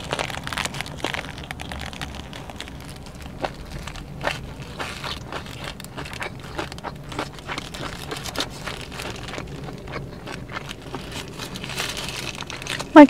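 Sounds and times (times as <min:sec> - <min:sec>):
chewing with mouth clicks: 0:00.0 - 0:13.0
low car hum: 0:00.0 - 0:13.0.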